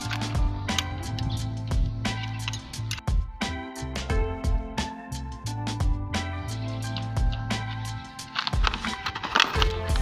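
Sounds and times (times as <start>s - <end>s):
music with bass drums and guitar: 0.0s - 10.0s.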